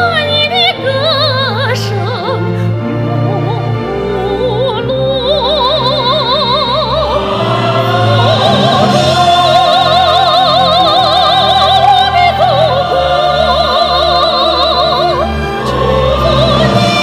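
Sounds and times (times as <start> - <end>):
orchestra accompaniment: 0.0 - 17.0
woman singing soprano: 0.0 - 17.0.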